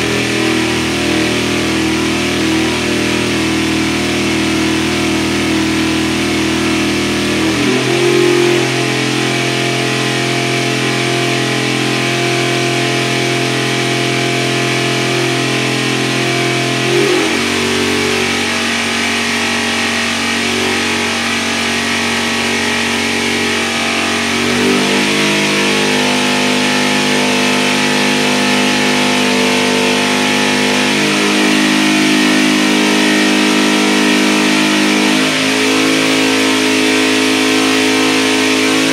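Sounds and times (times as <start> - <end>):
engine running on a dyno: 0.0 - 38.9.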